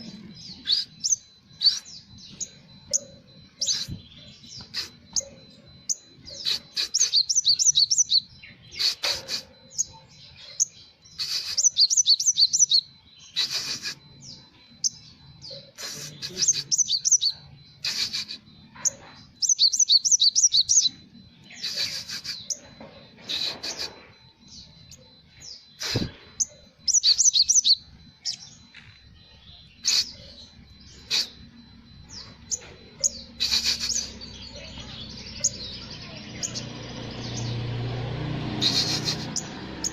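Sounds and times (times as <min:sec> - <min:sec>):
bird trilling song: 0:00.0 - 0:39.9
sparrow phrases: 0:00.0 - 0:39.9.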